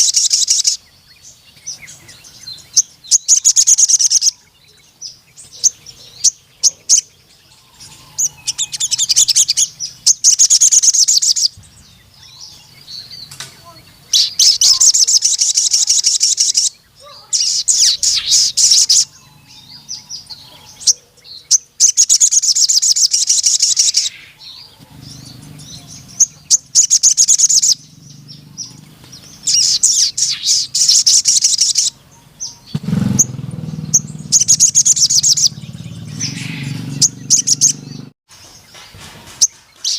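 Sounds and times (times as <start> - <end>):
bird singing high rapid trills: 0.0 - 39.9.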